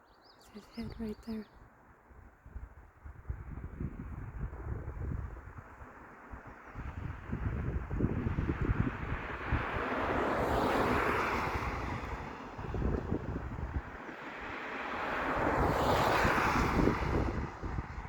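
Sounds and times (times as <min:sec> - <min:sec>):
wind buffeting microphone: 0:02.0 - 0:18.0.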